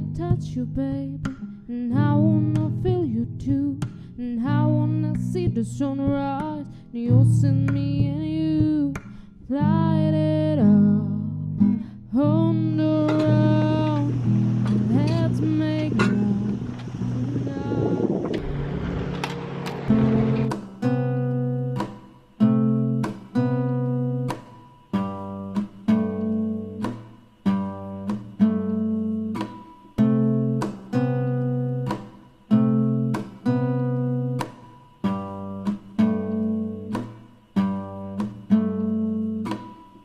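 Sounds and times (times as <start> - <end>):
acoustic guitar strumming chords: 0.0 - 40.0.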